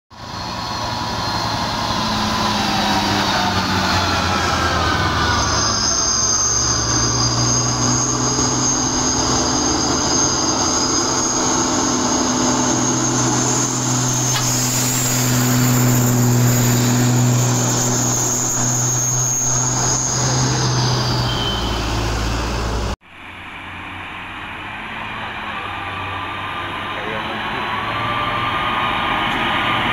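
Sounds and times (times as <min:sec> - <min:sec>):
distant truck engines approaching: 0:00.1 - 0:29.9
heavy truck engine passing: 0:00.1 - 0:29.9.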